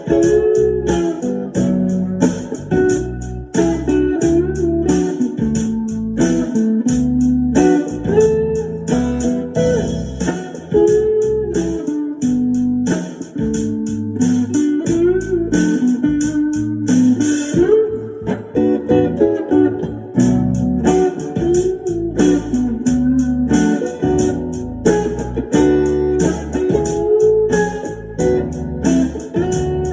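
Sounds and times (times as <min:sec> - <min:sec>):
electric guitar picked notes: 0:00.0 - 0:29.9.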